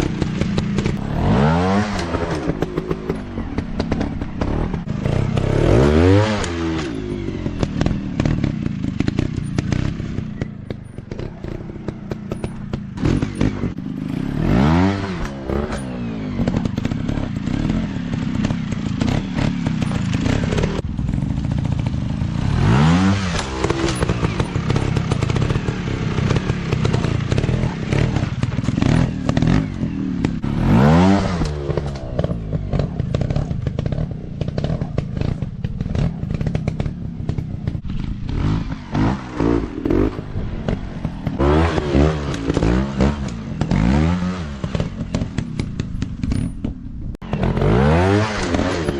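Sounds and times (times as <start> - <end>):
clatter: 0.0 - 48.9
dirt bike engines revving: 0.0 - 48.9.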